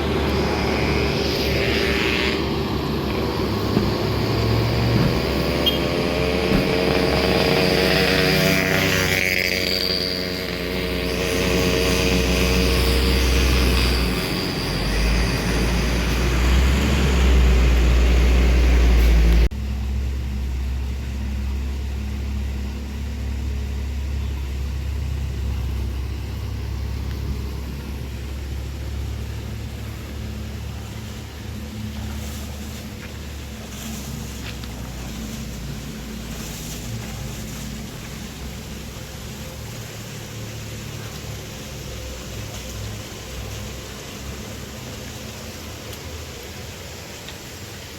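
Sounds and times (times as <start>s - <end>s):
steady engine hum: 0.0s - 47.9s
vehicle engines rumbling: 0.0s - 47.9s.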